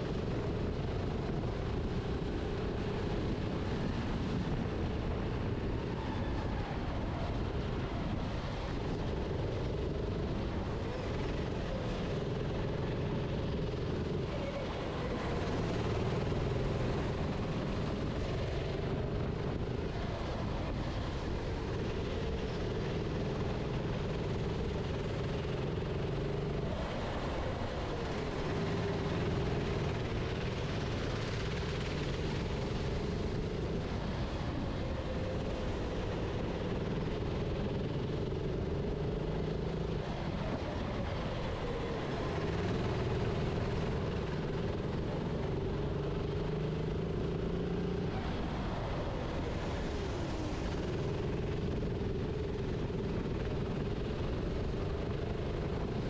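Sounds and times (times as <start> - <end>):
kart engine at speed: 0.0 - 56.0
wind and road noise: 0.0 - 56.0.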